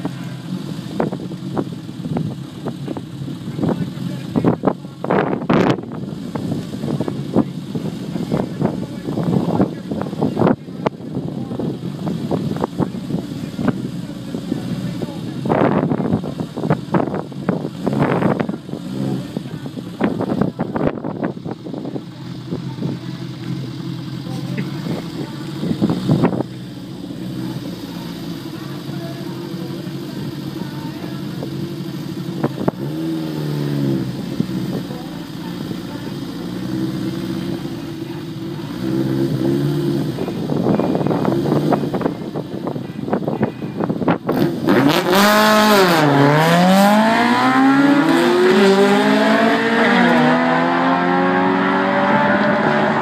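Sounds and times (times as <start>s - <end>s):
van engine running: 0.0s - 48.0s.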